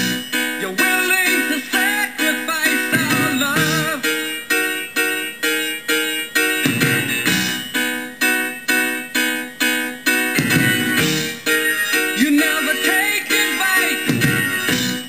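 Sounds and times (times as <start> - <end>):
piano striking repeated chord: 0.0 - 15.0.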